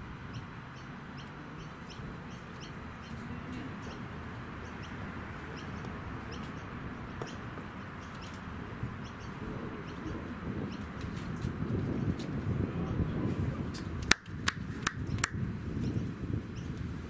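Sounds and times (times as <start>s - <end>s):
steady low rumble: 0.0s - 17.0s
small birds chirping: 0.1s - 12.3s, 15.0s - 16.9s.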